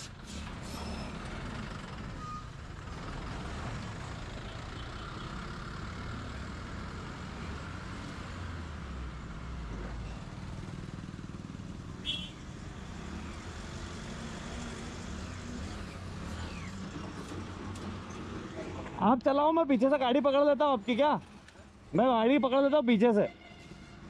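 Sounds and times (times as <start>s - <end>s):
motor vehicle engines rumbling: 0.0s - 24.0s.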